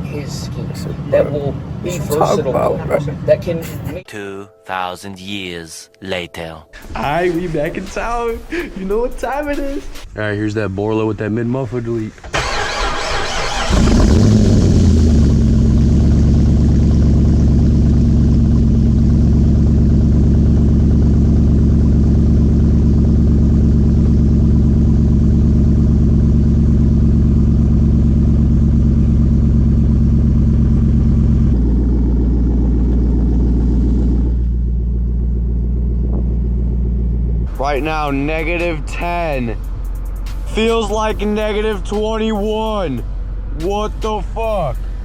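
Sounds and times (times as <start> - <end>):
vehicle engine idling burble: 6.8 - 45.0.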